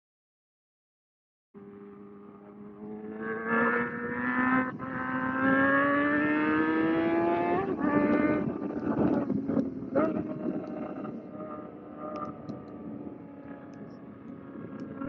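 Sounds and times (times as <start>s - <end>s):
motorcycle engine accelerating hard: 1.6s - 15.0s.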